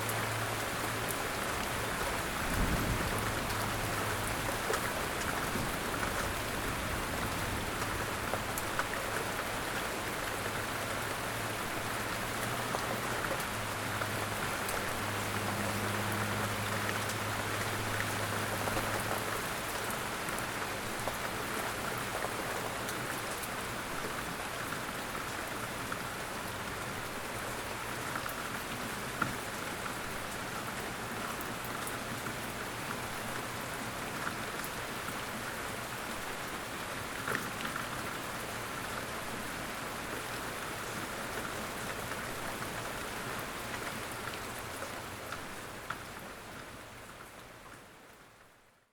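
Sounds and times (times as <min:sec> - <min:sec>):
steady rain patter: 0:00.0 - 0:48.9.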